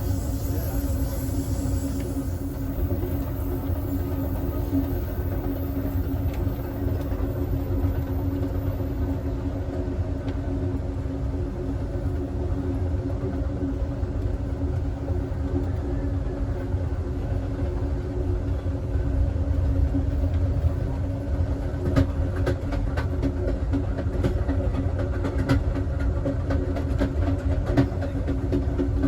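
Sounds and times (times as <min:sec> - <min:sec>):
train car rolling on track: 0:00.0 - 0:29.0.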